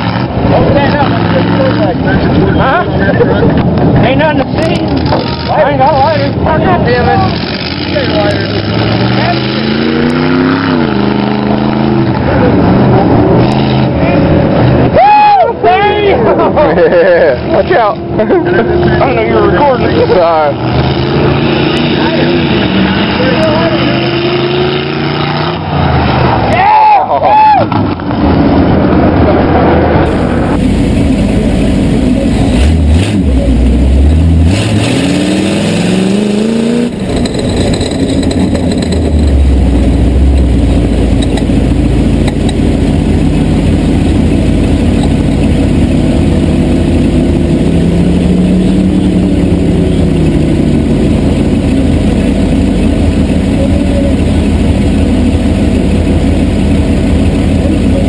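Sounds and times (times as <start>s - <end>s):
truck engine revving hard: 0.0s - 15.0s, 16.1s - 26.7s, 27.7s - 58.0s.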